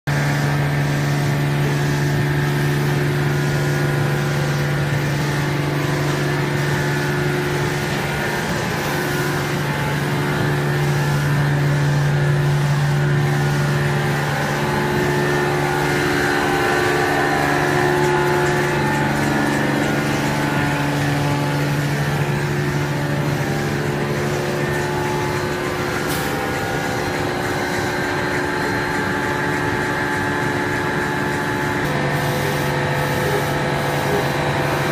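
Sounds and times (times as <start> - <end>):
held motor tones: 0.1 - 34.9
machine mechanical hum: 0.1 - 34.9.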